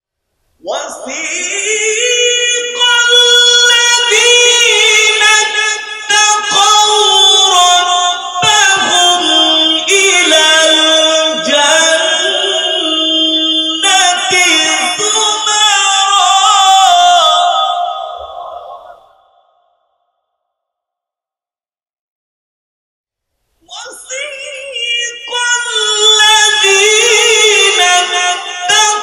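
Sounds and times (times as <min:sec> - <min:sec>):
man reciting melodically: 0:00.6 - 0:19.2, 0:23.7 - 0:29.0.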